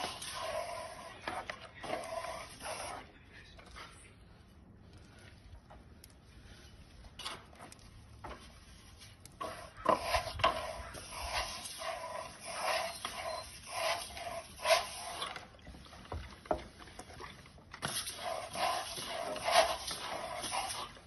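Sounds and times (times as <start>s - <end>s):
trowel scraping over stucco: 0.0s - 5.6s, 6.3s - 21.0s.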